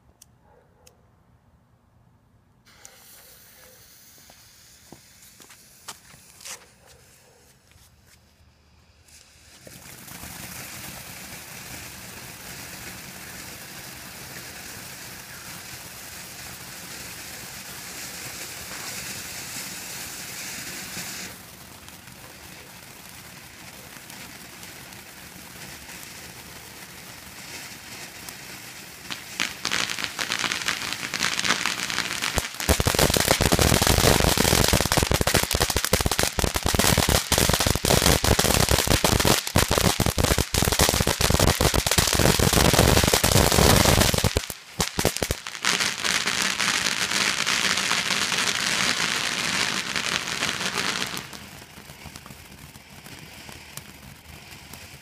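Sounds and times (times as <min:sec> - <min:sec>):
firework hissing and crackling: 0:02.7 - 0:55.0.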